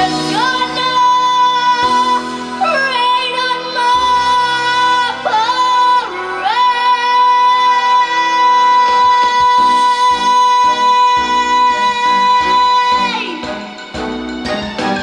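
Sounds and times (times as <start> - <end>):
instrumental backing track: 0.0 - 15.0.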